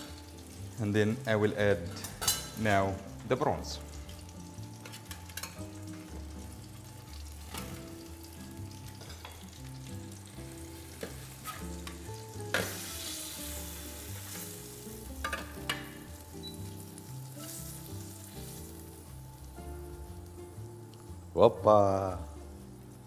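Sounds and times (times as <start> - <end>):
prawns sizzling in butter: 0.0 - 23.0.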